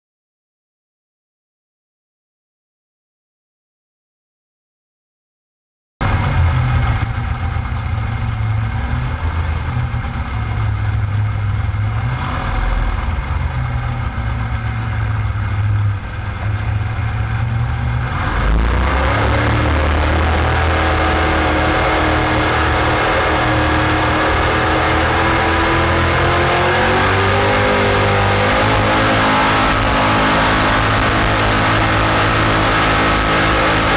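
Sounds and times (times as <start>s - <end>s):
jet boat engine rumbling: 6.0s - 33.9s.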